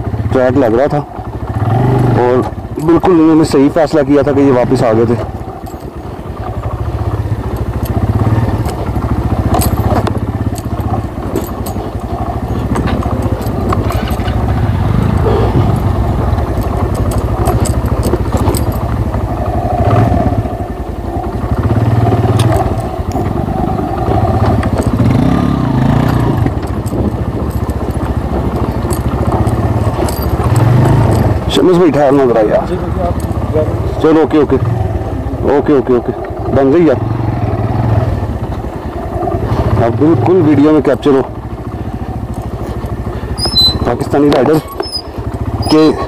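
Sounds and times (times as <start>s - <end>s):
motorcycle engine running: 0.0s - 46.0s
sharp clicks and rattles: 0.3s - 46.0s.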